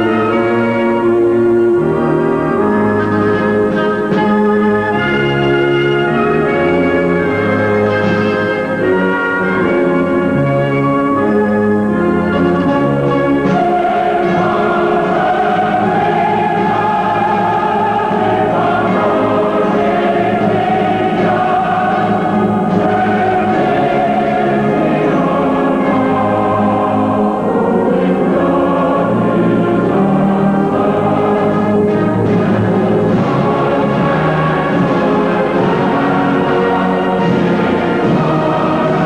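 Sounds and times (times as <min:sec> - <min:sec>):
choir singing held chords: 0:00.0 - 0:39.0.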